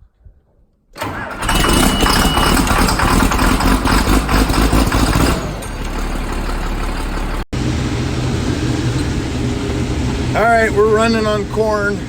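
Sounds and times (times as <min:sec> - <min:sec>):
combine harvester running: 0:01.0 - 0:12.0.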